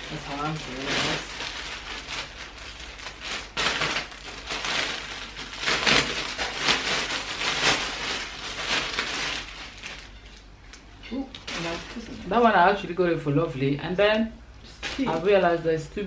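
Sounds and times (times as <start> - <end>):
plastic bags crinkling and rustling: 0.0 - 12.5, 14.7 - 15.6.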